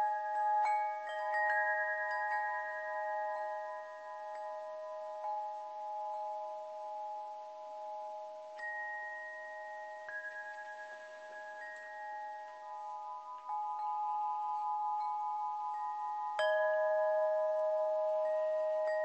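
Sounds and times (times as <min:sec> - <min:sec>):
metallic chimes ringing: 0:00.0 - 0:19.0.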